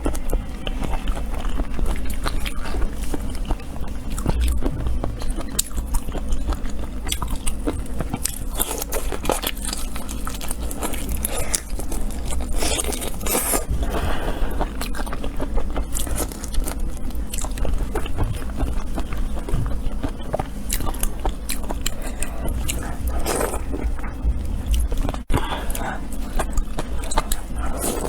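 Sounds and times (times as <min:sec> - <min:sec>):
crunching and chewing: 0:00.0 - 0:28.0.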